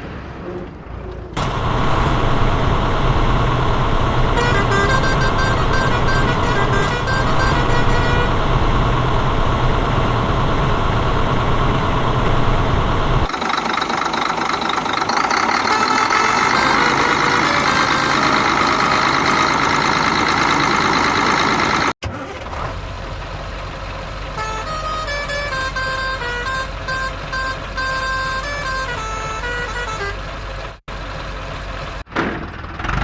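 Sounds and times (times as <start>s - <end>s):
truck engine running: 0.1s - 33.0s.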